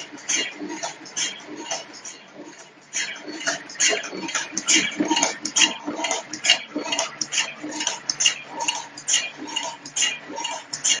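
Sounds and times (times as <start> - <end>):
machine mechanical clacks: 0.0 - 11.0.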